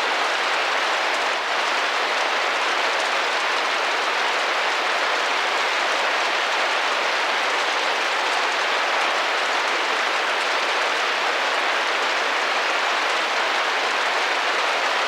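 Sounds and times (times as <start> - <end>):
rain on a window pane: 0.0 - 15.0.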